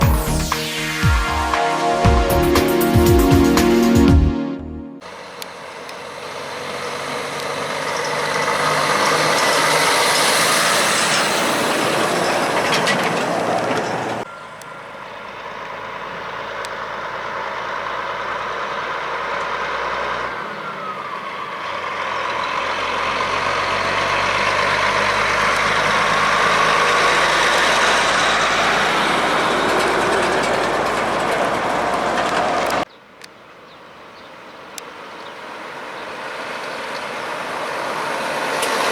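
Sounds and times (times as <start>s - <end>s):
heavy trucks driving past: 5.0s - 32.9s, 34.8s - 38.9s.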